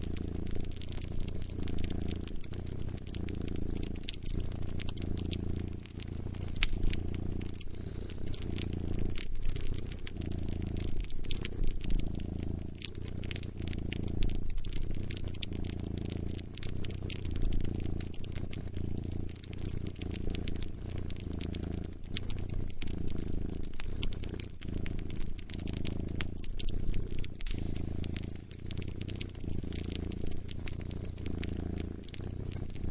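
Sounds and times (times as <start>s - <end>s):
cat purring: 0.0s - 32.9s
wood fire crackling: 0.0s - 32.9s.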